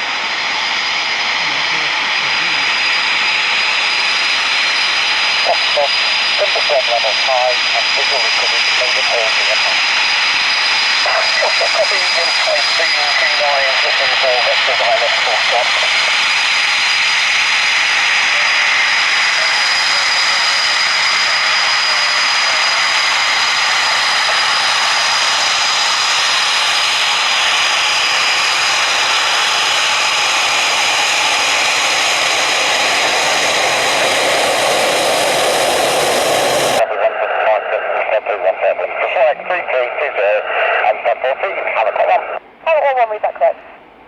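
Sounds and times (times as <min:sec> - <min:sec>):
jet engines rushing: 0:00.0 - 0:42.6
high jet engine whine: 0:00.0 - 0:44.0.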